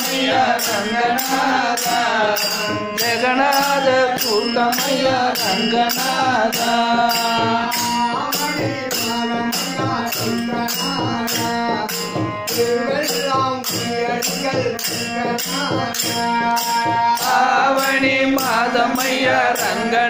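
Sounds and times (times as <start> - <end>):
hand cymbals: 0.0 - 20.0
hand drum beat: 0.0 - 20.0
harmonium melody: 0.0 - 20.0.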